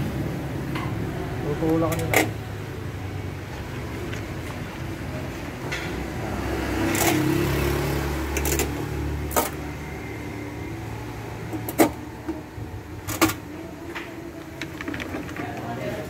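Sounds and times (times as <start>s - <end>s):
low vehicle rumble: 0.0s - 16.0s.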